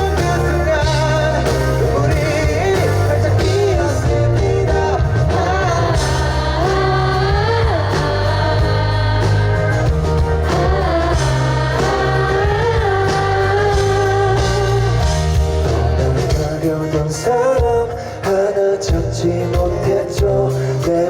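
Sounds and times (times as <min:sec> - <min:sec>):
band playing pop-rock ballad: 0:00.0 - 0:21.0
steady bass line: 0:00.0 - 0:21.0.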